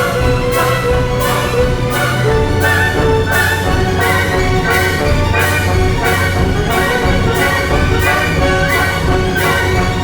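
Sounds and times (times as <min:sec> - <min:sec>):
soundtrack music with steady beat: 0:00.0 - 0:10.0.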